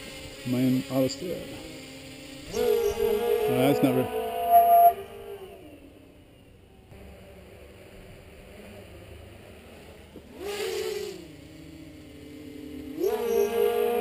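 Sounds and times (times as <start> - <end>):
multirotor motors running overhead: 0.0 - 14.0.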